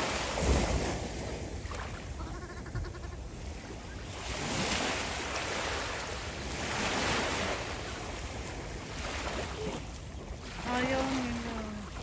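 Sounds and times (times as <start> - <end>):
small waves lapping on sand: 0.0 - 12.0.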